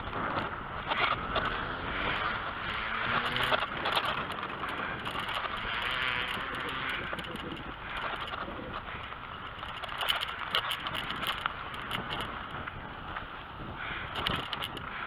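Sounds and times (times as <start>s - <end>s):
bicycle clicks and rattles: 0.0s - 15.0s
bicycle tyre noise: 0.0s - 15.0s.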